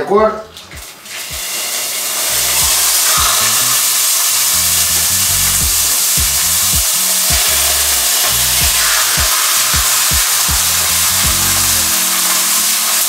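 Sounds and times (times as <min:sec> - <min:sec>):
background music with a beat: 0:00.2 - 0:13.0
meat sizzling in a frying pan: 0:00.9 - 0:13.0.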